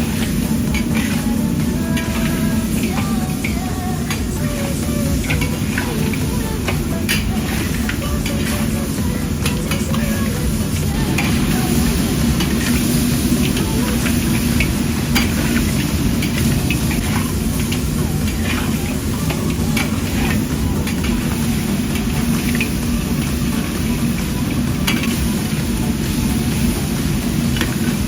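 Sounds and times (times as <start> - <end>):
low cooking rumble and hiss: 0.0 - 28.0.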